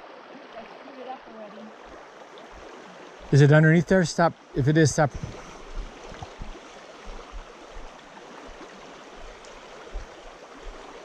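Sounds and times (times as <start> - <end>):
creek water babbling over rocks: 0.0 - 11.0.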